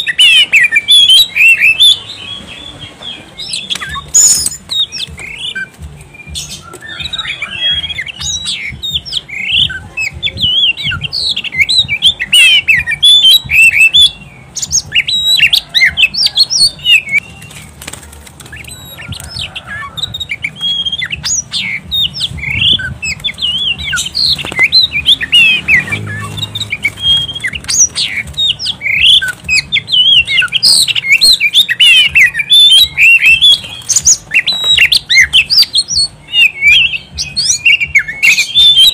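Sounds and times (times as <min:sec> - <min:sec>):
bird singing chirps and whistles: 0:00.0 - 0:17.7, 0:18.4 - 0:38.9.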